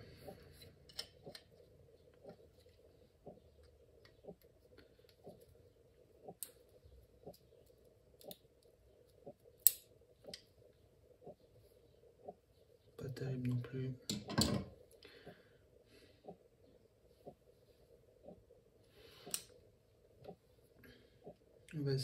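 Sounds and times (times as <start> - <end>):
faint soft ticking: 0.0 - 22.0.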